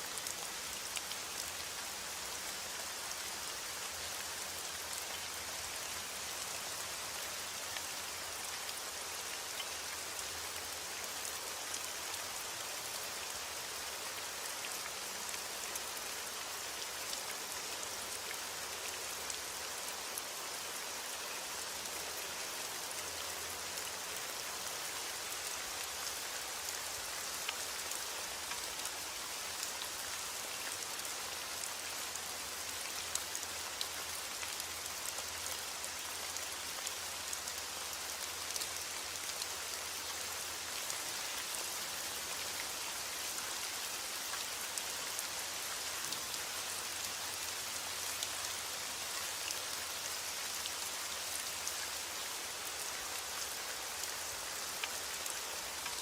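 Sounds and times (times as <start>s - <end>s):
steady rainfall: 0.0s - 56.0s
raindrops ticking on a surface: 0.1s - 20.6s, 21.2s - 56.0s.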